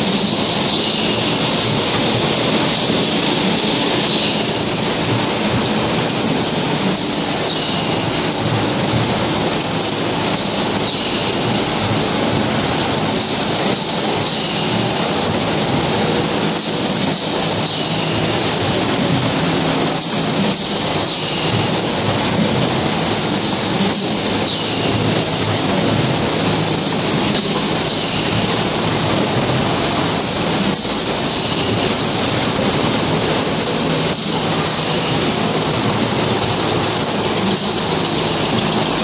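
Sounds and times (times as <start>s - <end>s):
machine running loudly: 0.0s - 39.0s.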